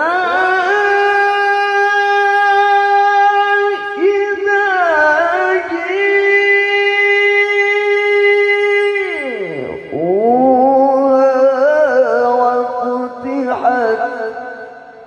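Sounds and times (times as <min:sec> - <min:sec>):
man reciting through microphone: 0:00.0 - 0:15.0.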